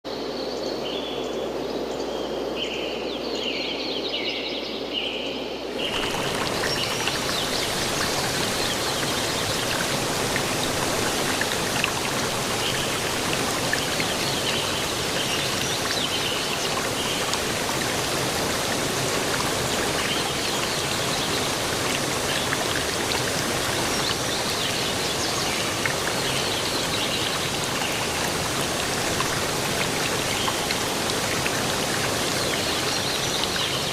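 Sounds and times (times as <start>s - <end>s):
waterfall rushing: 5.7s - 33.9s.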